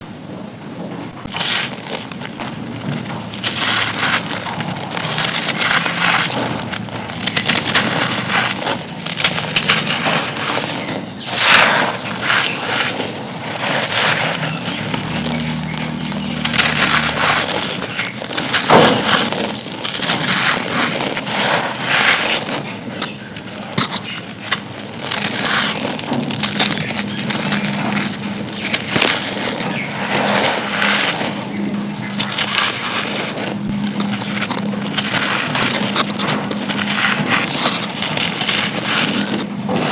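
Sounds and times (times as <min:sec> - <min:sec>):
concrete pieces crunching and crumbling: 0:01.2 - 0:39.9.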